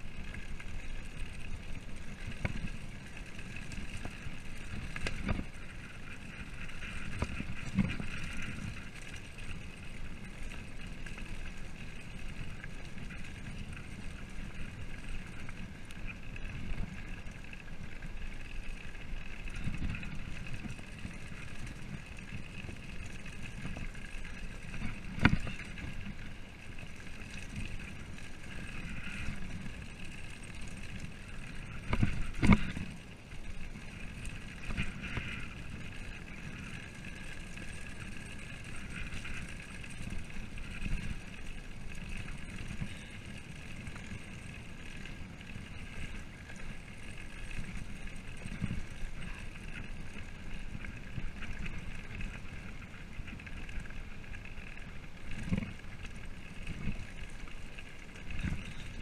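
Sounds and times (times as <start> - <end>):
bike rattling on gravel: 0.0 - 59.0.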